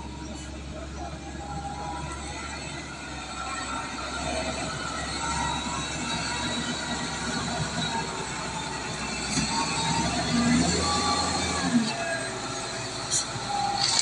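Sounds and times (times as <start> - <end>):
diesel wheel loader engine: 0.0 - 14.0.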